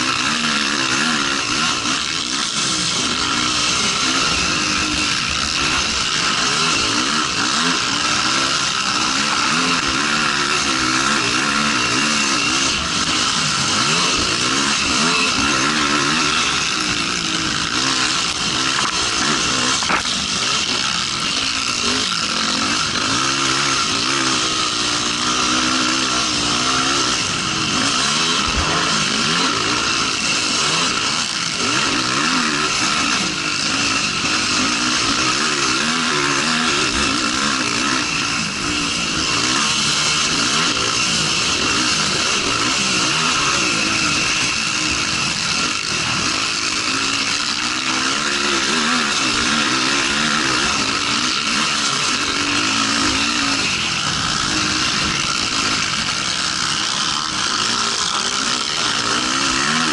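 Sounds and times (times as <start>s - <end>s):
racing quad engine revving: 0.0s - 59.9s.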